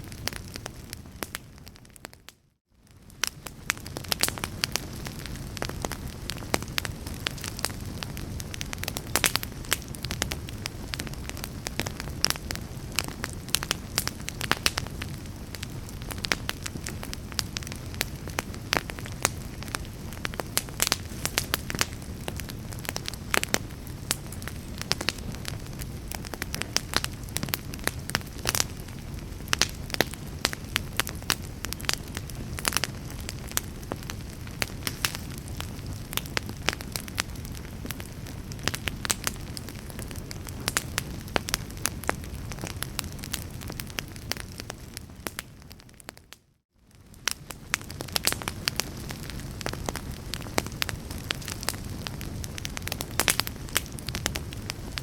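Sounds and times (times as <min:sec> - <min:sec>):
fireplace fire crackling: 0:00.0 - 0:55.0
low fire rumble: 0:00.0 - 0:55.0
sharp fire pops: 0:02.9 - 0:46.2, 0:46.9 - 0:55.0.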